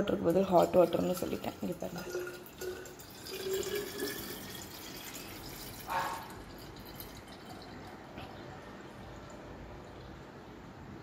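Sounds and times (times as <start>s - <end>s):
water pouring into a bottle: 0.0s - 9.5s.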